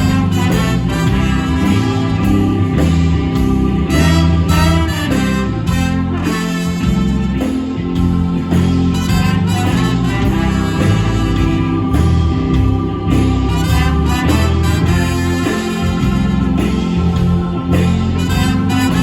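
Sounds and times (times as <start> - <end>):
live soul band instrumental: 0.0 - 19.0.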